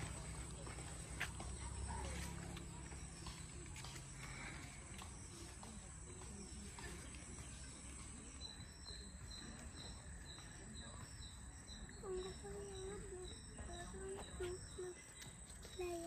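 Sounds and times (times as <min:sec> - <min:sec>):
repeated insect chirp: 0:00.0 - 0:16.0.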